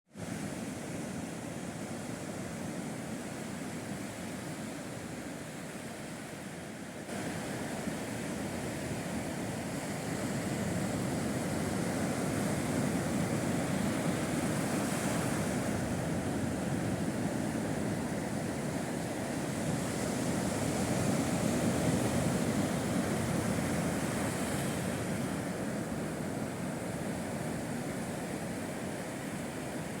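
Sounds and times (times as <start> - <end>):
sea waves breaking on shore: 0.1 - 30.0.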